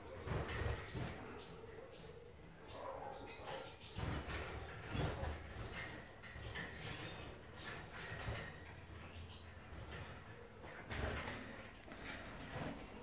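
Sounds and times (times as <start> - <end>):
finches chirping: 0.0 - 11.4, 12.2 - 13.0.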